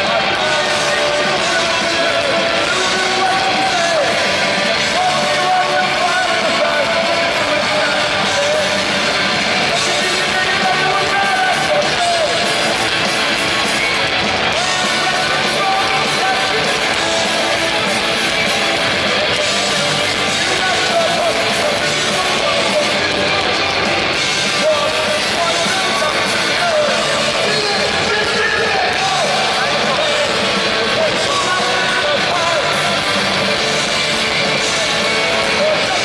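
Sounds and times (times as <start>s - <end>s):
electric guitars: 0.0s - 36.0s
person singing: 0.0s - 36.0s.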